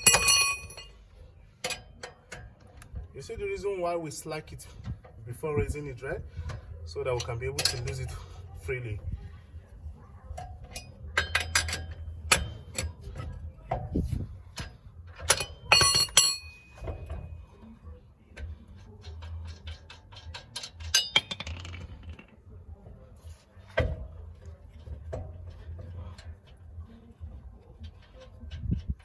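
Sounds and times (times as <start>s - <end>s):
metal clinks of wheel nuts: 0.0s - 2.9s, 4.9s - 8.4s, 10.3s - 29.0s.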